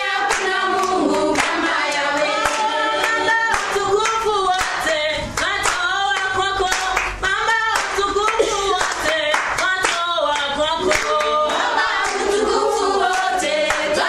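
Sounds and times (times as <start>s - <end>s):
group singing in harmony: 0.0s - 14.0s
hand claps: 0.2s - 12.4s, 13.0s - 14.0s.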